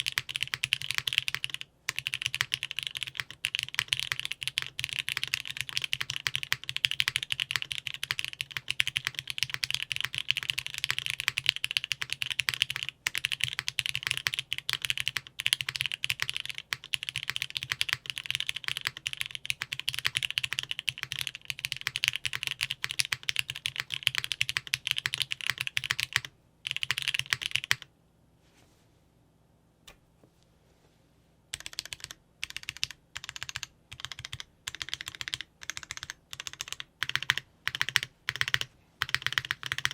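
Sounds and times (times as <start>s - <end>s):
mechanical keyboard typing: 0.0s - 27.9s, 31.5s - 39.9s.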